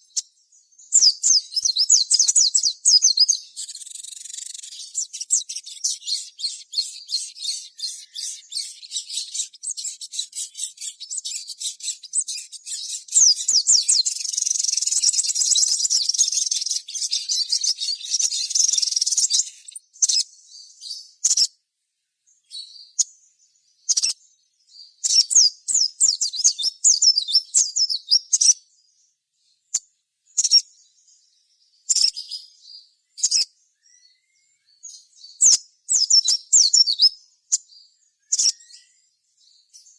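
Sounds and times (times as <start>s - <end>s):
songbird trilling and chirping: 0.0s - 21.6s, 22.2s - 39.9s.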